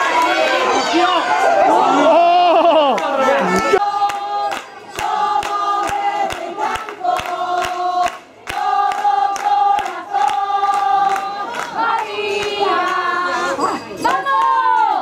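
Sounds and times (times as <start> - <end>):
crowd chanting in unison: 0.0 - 2.2, 3.0 - 15.0.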